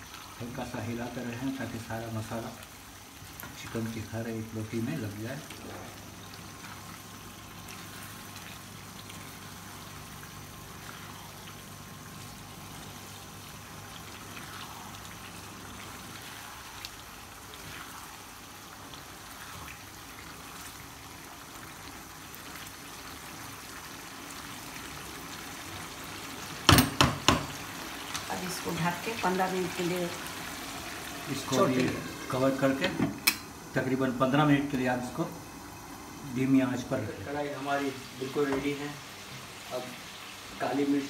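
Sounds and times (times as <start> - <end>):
food bubbling and sizzling: 0.0 - 41.0.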